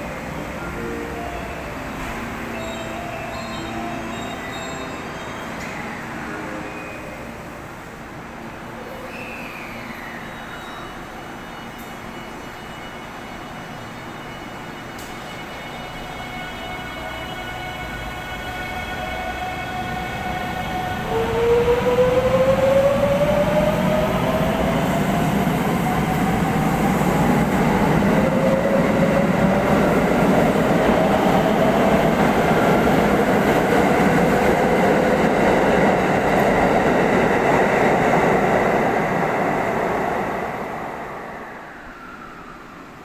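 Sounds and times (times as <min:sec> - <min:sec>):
rumble of train cars: 0:00.0 - 0:43.0.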